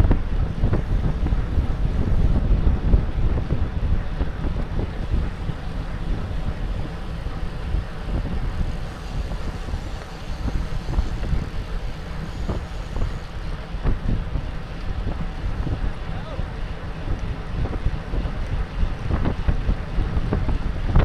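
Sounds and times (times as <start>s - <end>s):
tyre-on-road noise: 0.0s - 21.0s
wind buffeting microphone: 0.0s - 21.0s.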